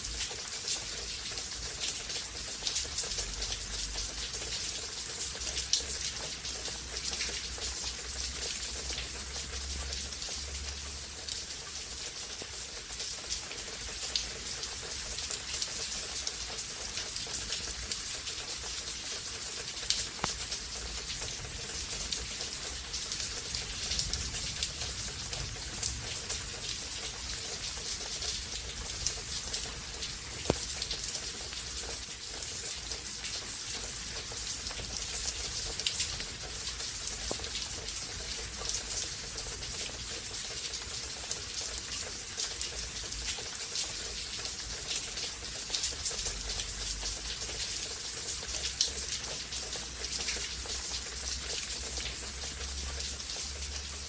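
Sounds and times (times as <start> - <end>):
heavy rain: 0.0 - 54.0
sharp drips and taps: 0.0 - 54.0.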